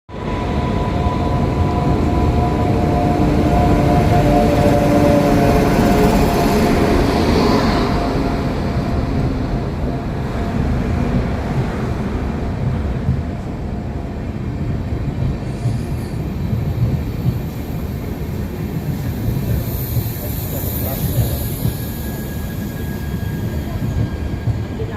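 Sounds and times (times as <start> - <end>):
train coaches rumbling past: 0.1 - 24.9.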